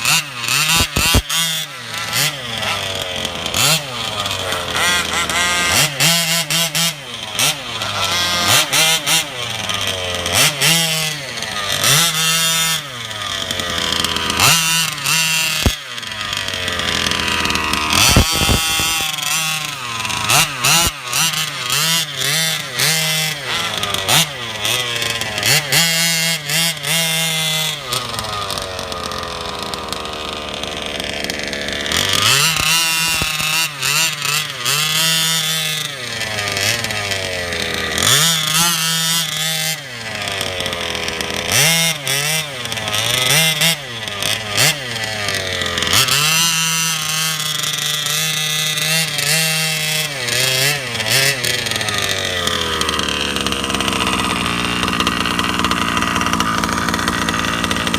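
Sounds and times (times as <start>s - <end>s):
two-stroke engine revving: 0.0s - 57.9s.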